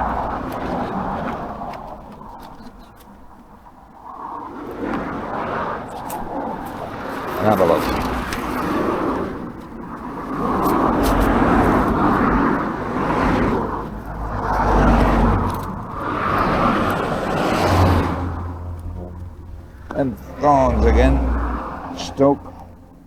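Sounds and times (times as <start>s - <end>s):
road traffic passing: 0.0s - 23.0s.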